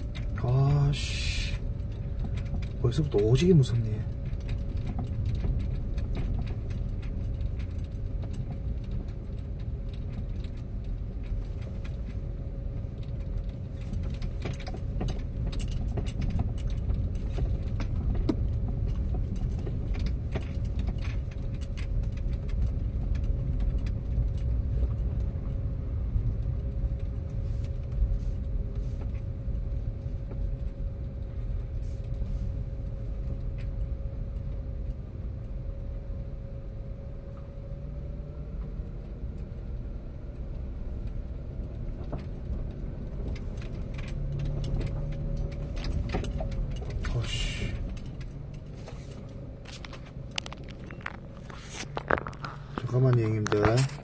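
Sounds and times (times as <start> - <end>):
small clicks and rattles: 0.0 - 36.3, 37.3 - 54.0
engine and road rumble: 0.0 - 54.0
faint steady hum: 0.0 - 54.0.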